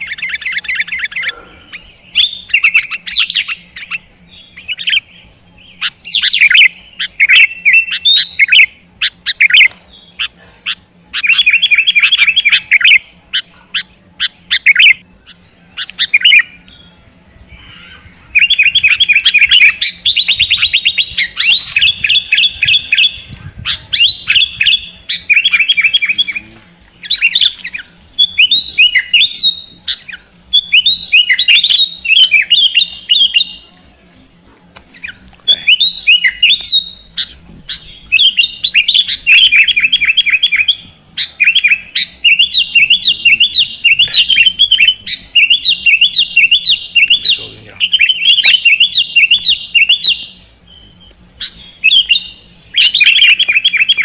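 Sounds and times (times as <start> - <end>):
bulbul singing: 0.0 - 54.0.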